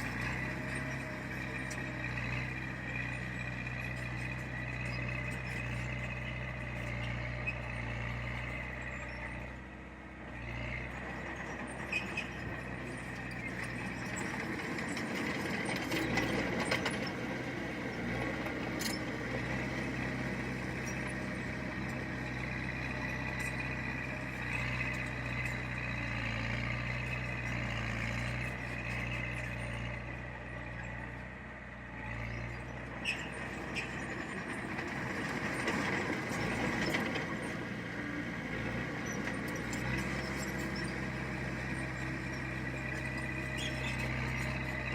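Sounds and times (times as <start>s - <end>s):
heavy diesel machine running: 0.0s - 44.9s.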